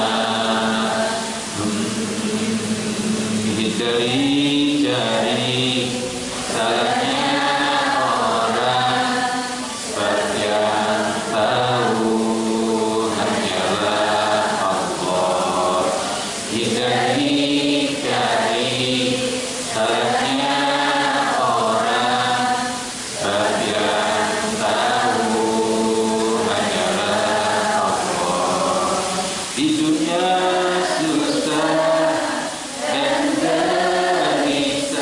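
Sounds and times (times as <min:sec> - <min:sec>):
man chanting into a microphone: 0:00.0 - 0:33.4.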